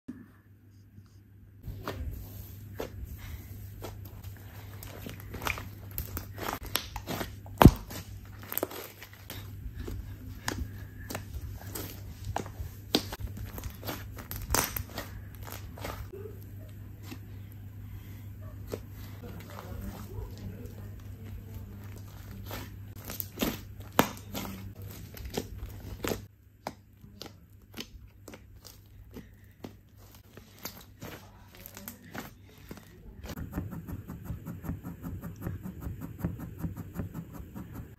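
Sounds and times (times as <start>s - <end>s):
slime squishing by hand: 1.7s - 17.5s, 18.4s - 37.9s.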